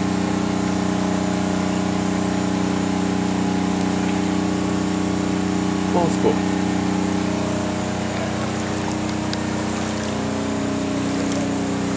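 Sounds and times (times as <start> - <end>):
engine humming steadily: 0.0 - 11.9.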